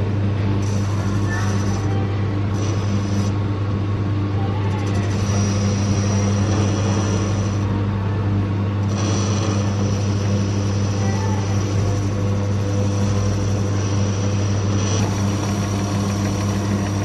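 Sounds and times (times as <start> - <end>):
metal lathe motor hum: 0.0 - 17.0.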